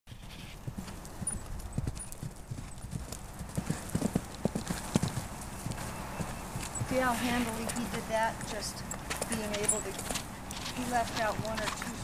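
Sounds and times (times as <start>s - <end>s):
horse hoofbeats cantering on grass: 0.1s - 12.0s.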